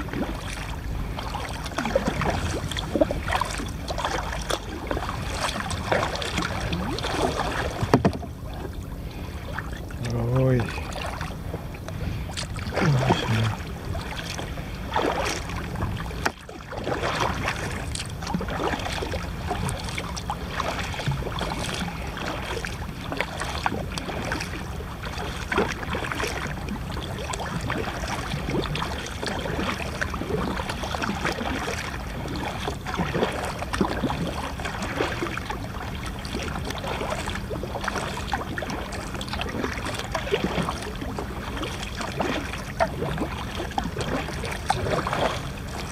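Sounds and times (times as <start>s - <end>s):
water lapping against a kayak: 0.0s - 45.9s.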